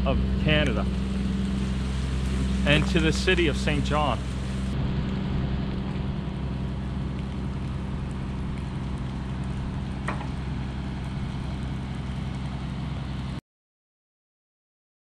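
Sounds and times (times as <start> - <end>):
low engine rumble: 0.0 - 13.4
outdoor noise: 0.0 - 13.4.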